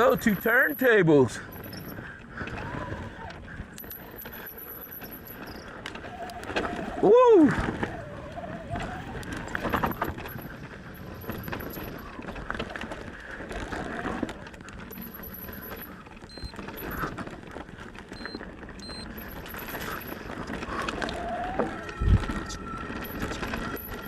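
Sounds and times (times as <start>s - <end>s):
bike chain and frame rattling: 0.0s - 24.0s.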